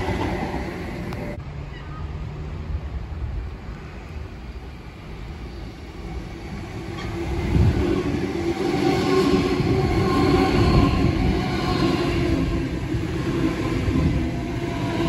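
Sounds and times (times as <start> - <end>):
electric train rumbling: 0.0 - 15.0
high whine of train: 0.0 - 15.0.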